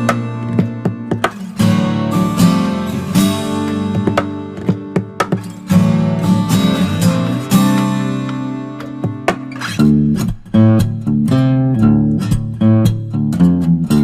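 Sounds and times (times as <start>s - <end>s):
acoustic guitar strummed and picked: 0.0s - 14.0s.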